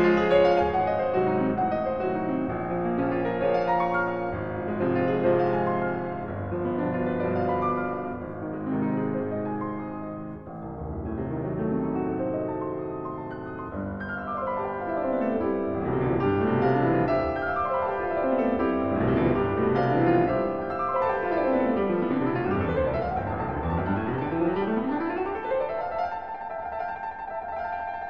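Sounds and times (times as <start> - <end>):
piano music with rapid runs: 0.0 - 28.0.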